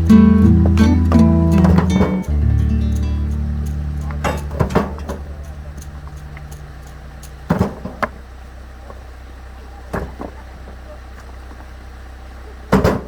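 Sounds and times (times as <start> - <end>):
tractor engine running: 0.0 - 12.6.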